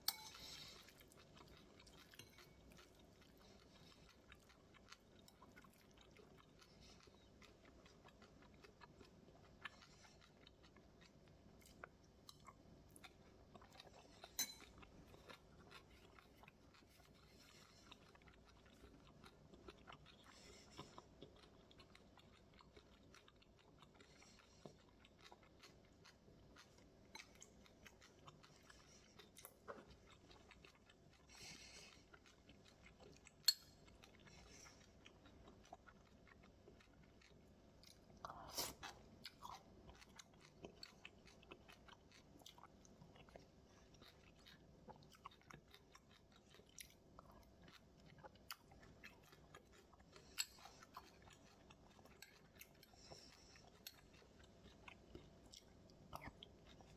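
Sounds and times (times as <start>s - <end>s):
chewing and crunching food: 0.0s - 56.9s.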